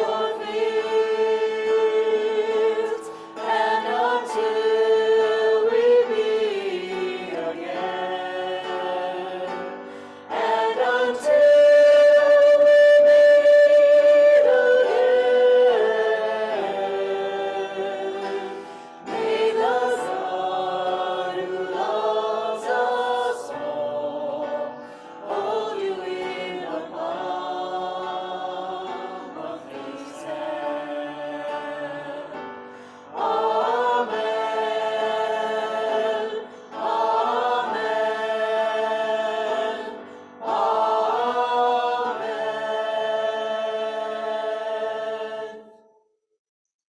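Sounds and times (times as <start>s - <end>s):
choir singing: 0.0s - 46.0s.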